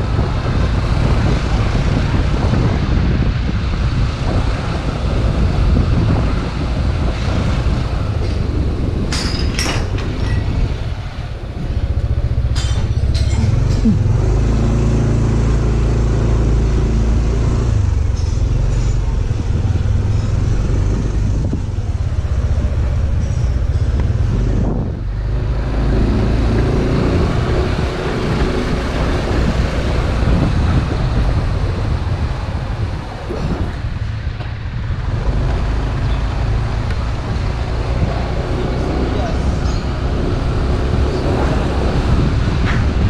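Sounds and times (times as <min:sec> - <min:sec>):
wind and road noise: 0:00.0 - 0:43.0.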